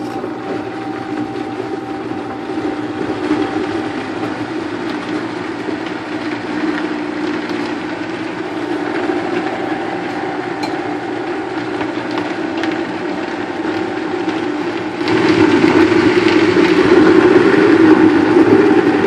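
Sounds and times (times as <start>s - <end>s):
blender motor blending fruit: 0.0s - 19.0s.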